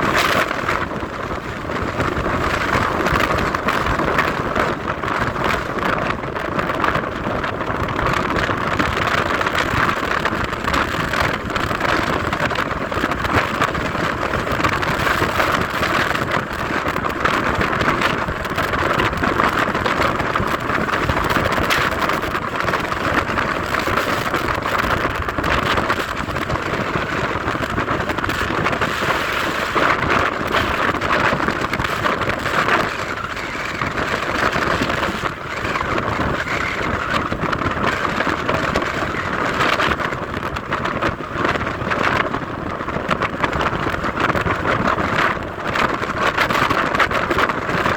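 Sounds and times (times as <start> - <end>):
car road and wind noise: 0.0 - 47.9.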